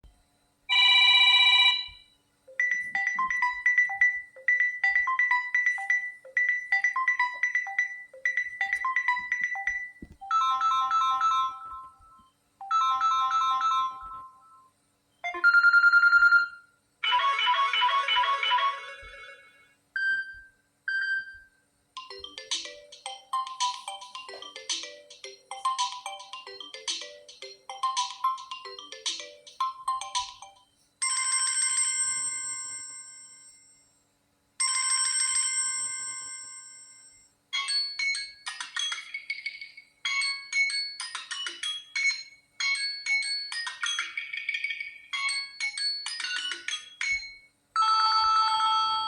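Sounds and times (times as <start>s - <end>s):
electronic ringtone melodies: 0.7s - 21.4s, 22.0s - 33.5s, 37.5s - 49.0s.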